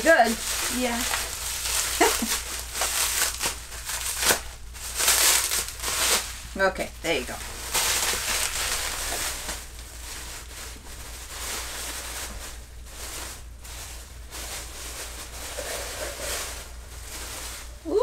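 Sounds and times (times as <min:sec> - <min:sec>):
paper packaging rustling: 0:00.0 - 0:18.0
steady low hum: 0:00.0 - 0:18.0.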